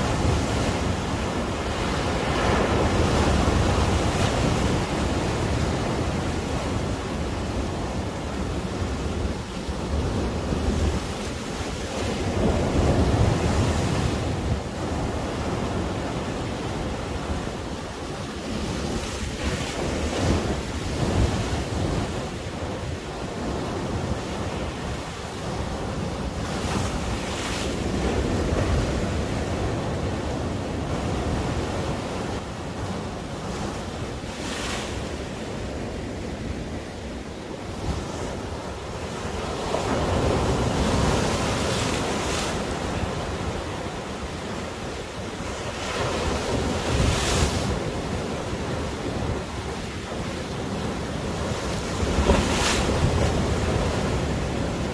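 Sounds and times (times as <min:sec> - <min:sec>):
waves breaking on beach: 0:00.0 - 0:54.9
wind rumbling on microphone: 0:00.0 - 0:54.9.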